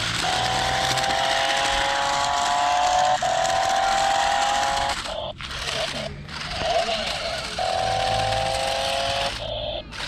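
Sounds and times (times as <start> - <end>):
toy car motor whining: 0.0 - 10.0.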